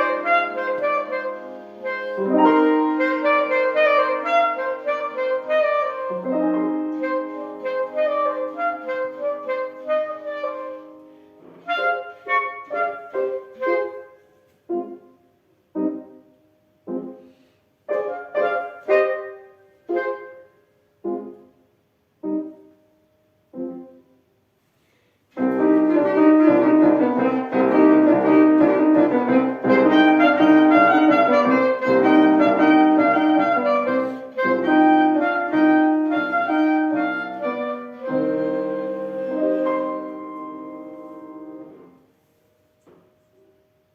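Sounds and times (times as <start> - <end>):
wind instrument playing: 0.0 - 15.1, 17.9 - 21.4, 25.4 - 42.1
piano accompaniment: 0.0 - 24.5, 25.3 - 43.9.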